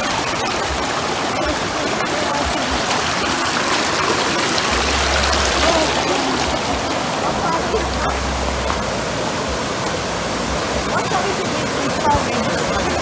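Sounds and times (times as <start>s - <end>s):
river water running over stones: 0.0s - 13.0s.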